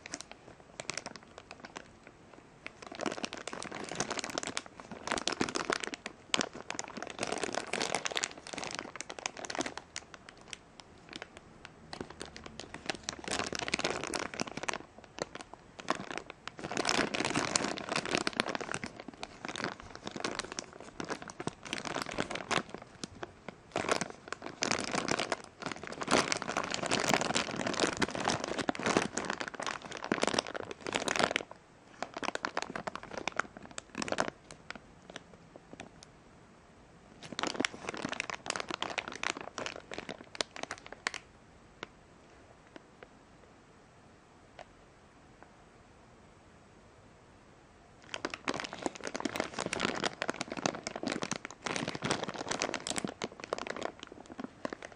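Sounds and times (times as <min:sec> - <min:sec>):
plastic bag crinkling: 0:00.0 - 0:36.0, 0:37.2 - 0:41.9, 0:48.0 - 0:54.9.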